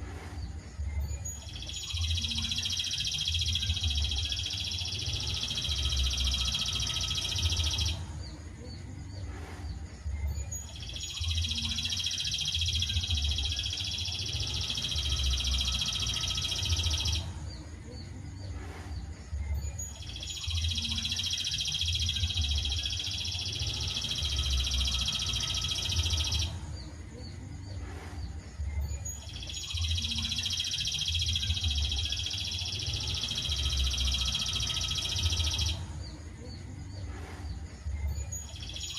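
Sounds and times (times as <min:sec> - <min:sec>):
songbird rapid trilling song: 0:00.4 - 0:38.9.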